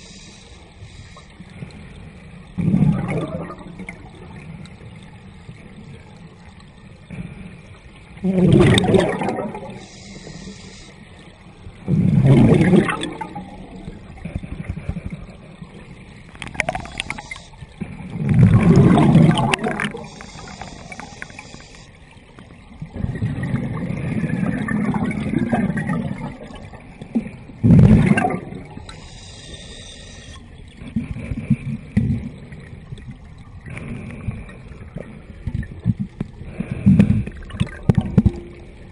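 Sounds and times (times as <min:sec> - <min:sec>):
gurgling water surges: 0:00.0 - 0:38.9
muffled underwater rumble and bubbling: 0:00.0 - 0:38.9.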